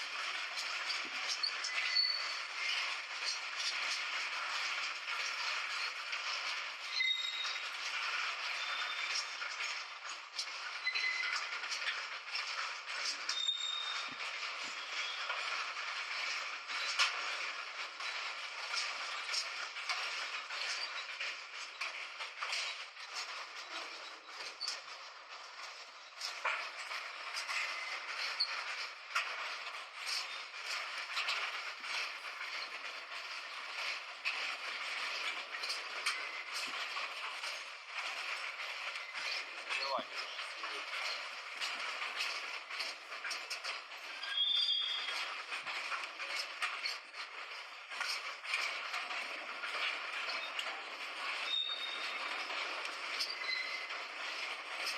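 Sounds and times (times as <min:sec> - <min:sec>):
rail clicks: 0:00.0 - 0:54.9
train rolling on rails: 0:00.0 - 0:54.9.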